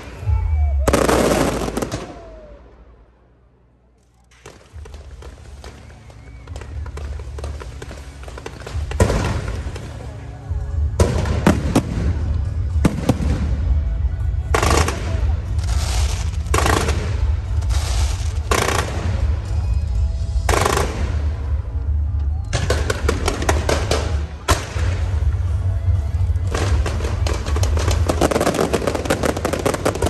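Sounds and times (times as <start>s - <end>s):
fireworks bursts: 0.0s - 3.0s, 4.3s - 30.0s
fireworks crackling: 0.0s - 3.0s, 4.1s - 30.0s
low rumble: 4.6s - 30.0s.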